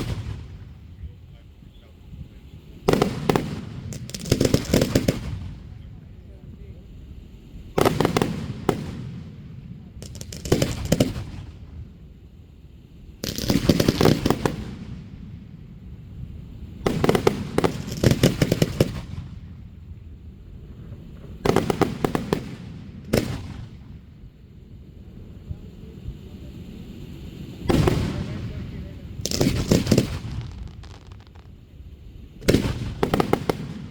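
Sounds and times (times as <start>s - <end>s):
fireworks banging and crackling: 0.0s - 6.2s, 7.7s - 12.1s, 13.2s - 33.9s.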